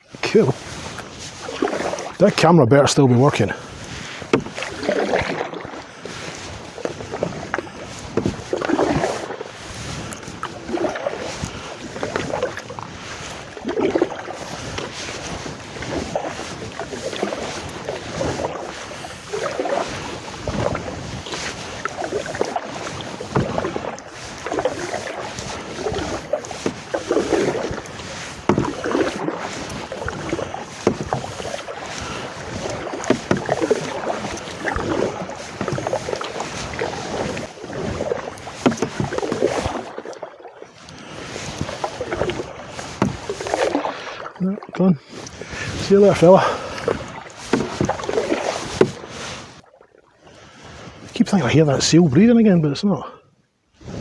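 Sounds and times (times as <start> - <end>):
canoe paddle swishing and splashing: 0.0 - 52.6, 53.7 - 54.0.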